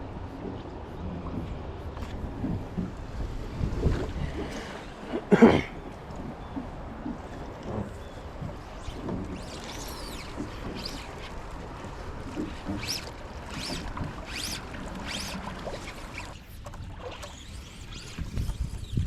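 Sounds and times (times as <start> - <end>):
wind: 0.0 - 19.0.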